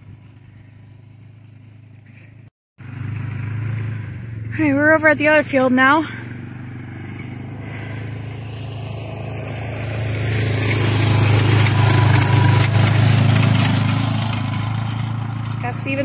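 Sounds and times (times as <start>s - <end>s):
quad engine passing by: 0.0s - 16.0s.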